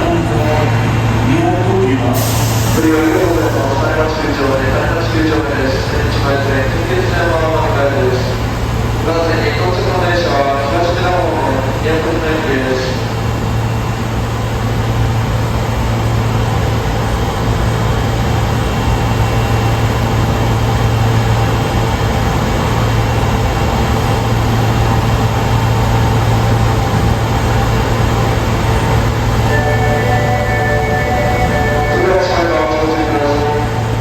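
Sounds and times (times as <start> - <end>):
station background noise: 0.0 - 34.0
subway train equipment humming: 0.0 - 34.0.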